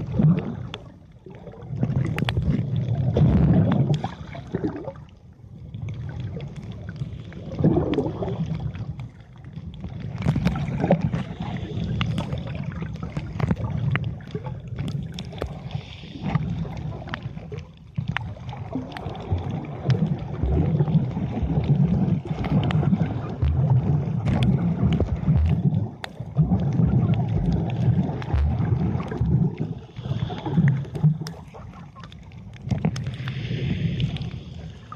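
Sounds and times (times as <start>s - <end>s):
muffled underwater water rumble: 0.0s - 34.9s.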